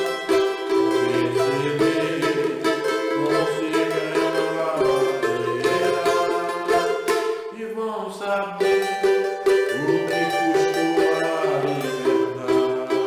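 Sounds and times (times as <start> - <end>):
strummed small guitar chords: 0.0 - 13.0.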